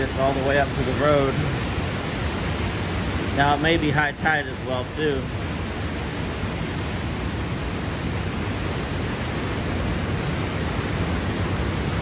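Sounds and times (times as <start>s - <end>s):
heavy surf: 0.0s - 12.0s
hurricane wind rushing: 0.0s - 12.0s.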